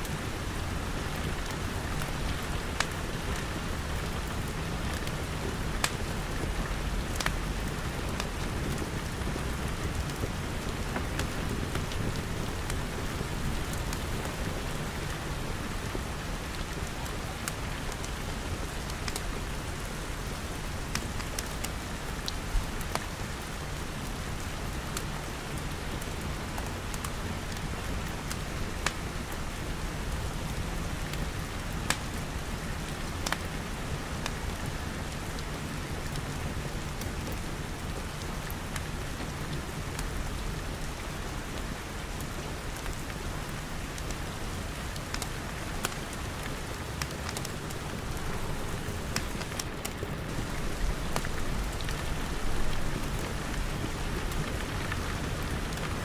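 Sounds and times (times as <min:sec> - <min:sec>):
rain pattering on glass: 0:00.0 - 0:56.0.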